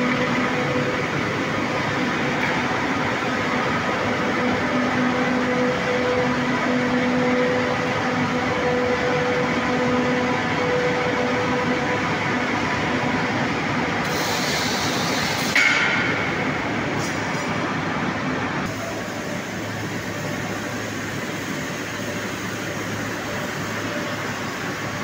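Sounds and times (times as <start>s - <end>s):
rolling mill clatter and drone: 0.0s - 25.0s.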